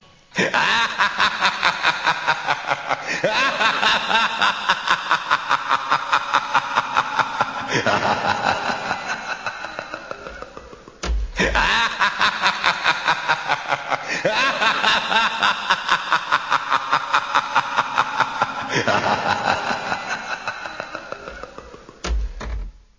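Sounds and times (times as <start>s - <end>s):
rapid laughter: 0.4s - 22.0s.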